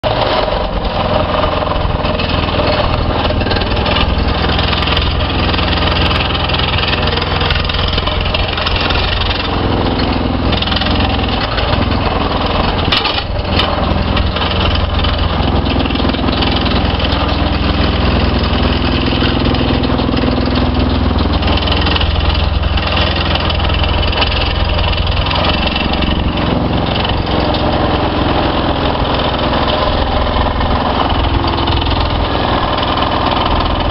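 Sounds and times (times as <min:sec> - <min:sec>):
diesel engine drone: 0:00.0 - 0:33.9
plate compactor vibrating: 0:00.0 - 0:33.9.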